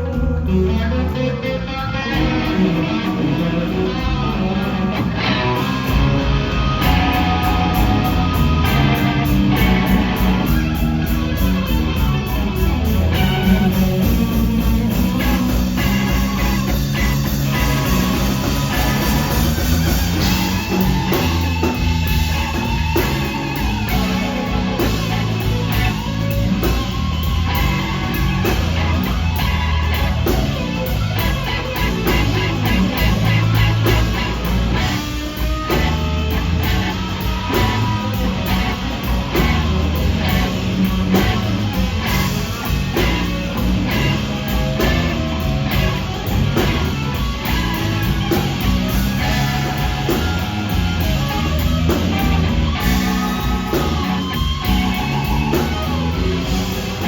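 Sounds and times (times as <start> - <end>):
electric blues band: 0.0 - 57.0
electric guitar lead lines: 0.0 - 57.0.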